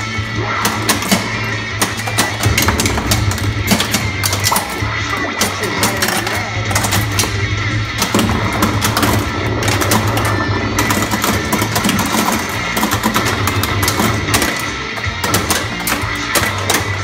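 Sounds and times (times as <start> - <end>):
pinball game music and effects: 0.0 - 17.0
pinball flipper clicks and knocks: 0.6 - 7.4, 8.0 - 17.0.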